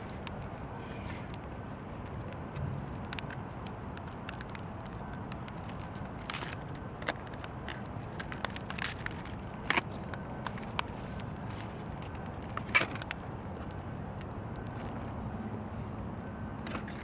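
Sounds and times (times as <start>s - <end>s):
fire pops: 0.0s - 17.0s
low steady rumble: 0.0s - 17.0s
wood fire crackling: 0.0s - 17.0s.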